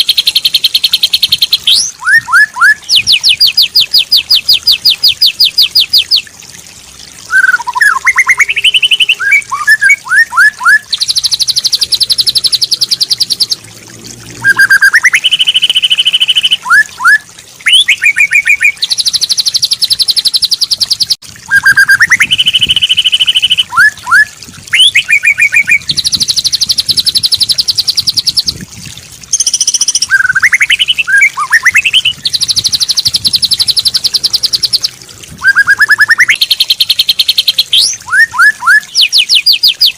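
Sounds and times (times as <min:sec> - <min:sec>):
bird whistled phrases: 0:00.0 - 0:06.2, 0:07.3 - 0:13.6, 0:14.4 - 0:28.6, 0:29.4 - 0:34.8, 0:35.4 - 0:39.9.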